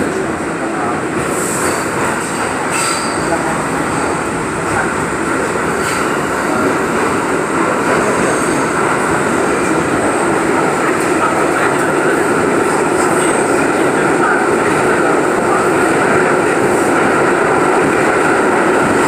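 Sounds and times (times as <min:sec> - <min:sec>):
subway wheels rumbling on rail: 0:00.0 - 0:19.0.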